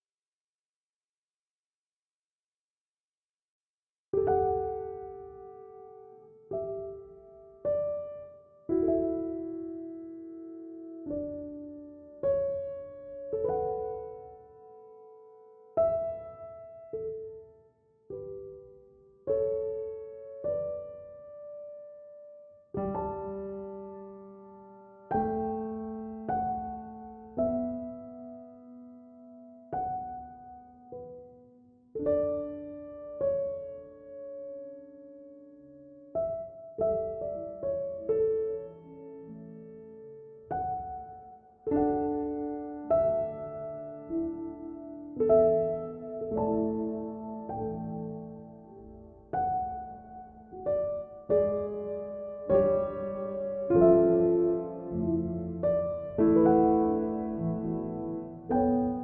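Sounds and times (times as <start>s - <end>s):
slow soft piano music: 4.1s - 59.0s.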